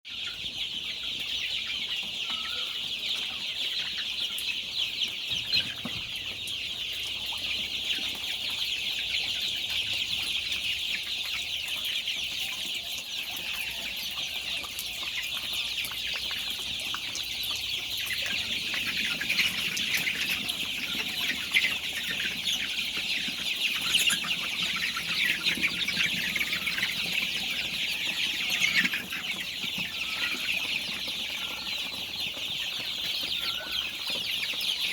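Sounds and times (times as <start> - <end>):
flock of chickens peeping and clucking: 0.1 - 34.9.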